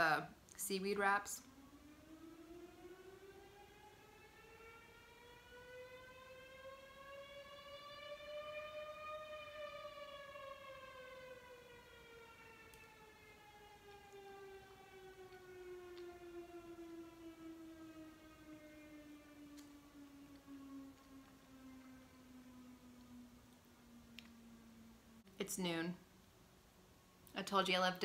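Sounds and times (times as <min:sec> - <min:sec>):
faint siren winding up and down: 0:00.0 - 0:28.0.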